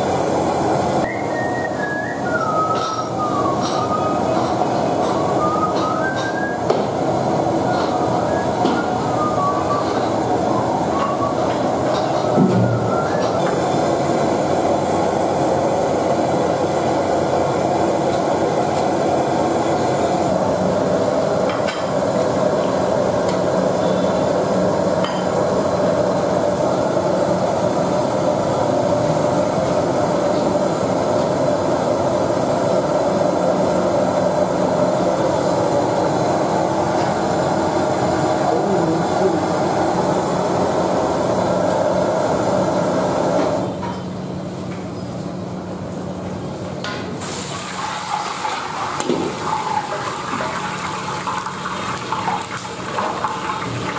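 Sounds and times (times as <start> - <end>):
broth boiling: 0.0 - 43.9, 47.2 - 53.9
gas wok burner rushing: 0.0 - 44.6, 46.6 - 53.9.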